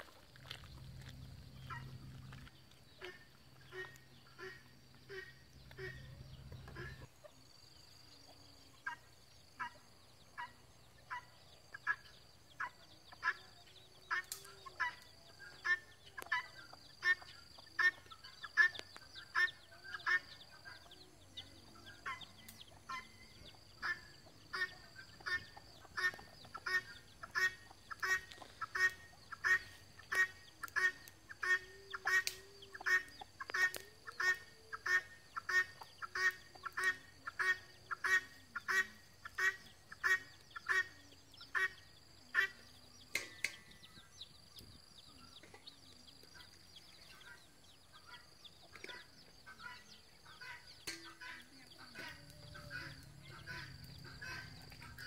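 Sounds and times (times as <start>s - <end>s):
bird calling: 1.5s - 55.0s.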